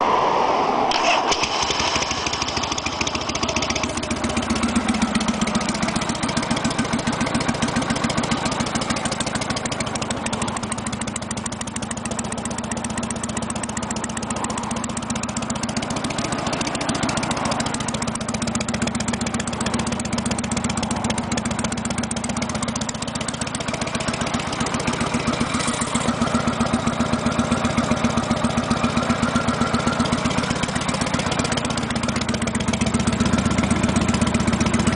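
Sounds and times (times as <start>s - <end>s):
motorcycle engine idling: 1.4s - 34.9s.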